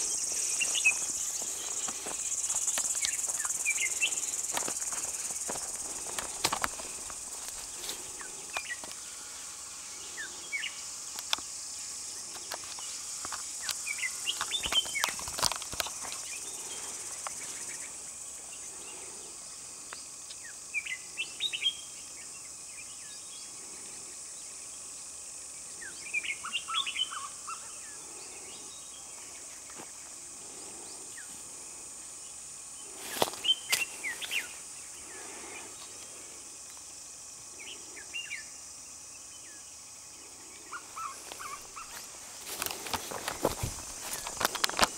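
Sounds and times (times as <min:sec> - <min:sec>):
small birds chirping: 0:00.0 - 0:24.9, 0:25.5 - 0:31.6, 0:32.2 - 0:44.9
insects droning: 0:00.0 - 0:44.9.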